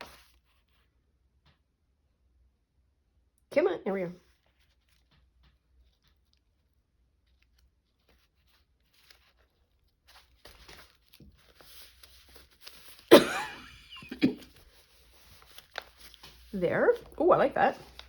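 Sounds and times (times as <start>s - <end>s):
paper rustling: 0.0s - 0.8s, 4.4s - 18.0s.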